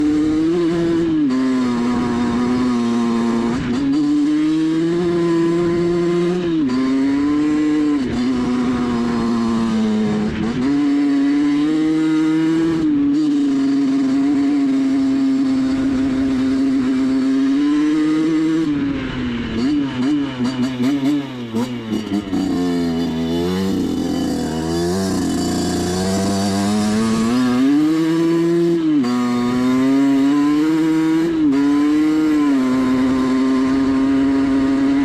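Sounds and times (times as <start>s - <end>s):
two-stroke engine revving: 0.0s - 35.0s.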